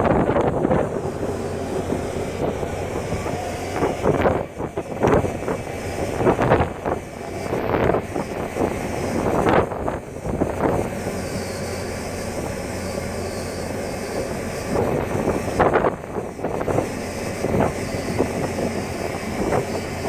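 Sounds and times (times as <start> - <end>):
gale wind buffeting microphone: 0.0 - 20.0
steady low hum: 0.0 - 20.0.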